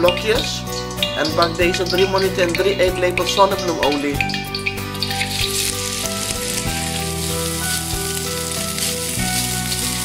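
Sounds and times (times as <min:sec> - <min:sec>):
background music: 0:00.0 - 0:10.0
chicken sizzling in oil: 0:00.0 - 0:10.0.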